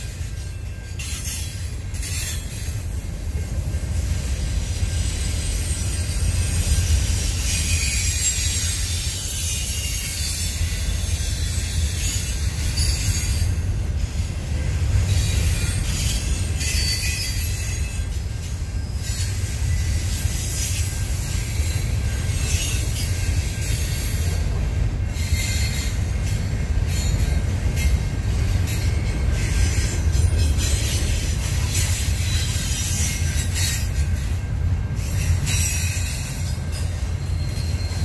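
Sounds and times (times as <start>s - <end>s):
freight train rumbling: 0.0s - 38.0s
wheels squealing on rails: 0.0s - 38.0s.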